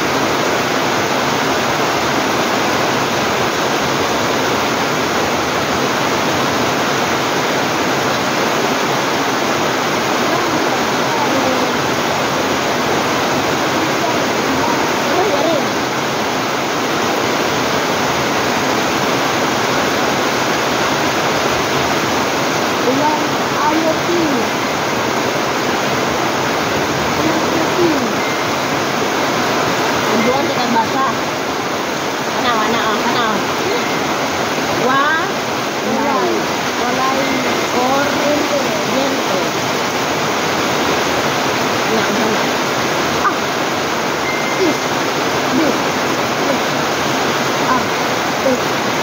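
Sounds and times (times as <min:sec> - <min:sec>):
heavy rain on trees and roofs: 0:00.0 - 0:49.0
water pouring off eaves: 0:00.0 - 0:49.0.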